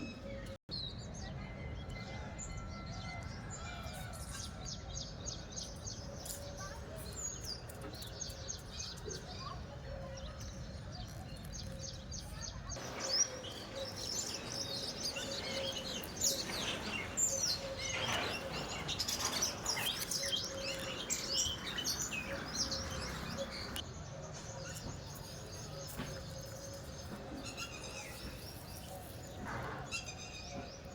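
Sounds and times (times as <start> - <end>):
birds chirping: 5.0 - 30.9.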